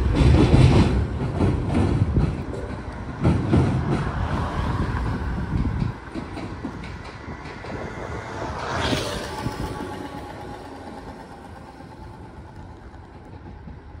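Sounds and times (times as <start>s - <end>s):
electric train rumble: 0.0s - 14.0s.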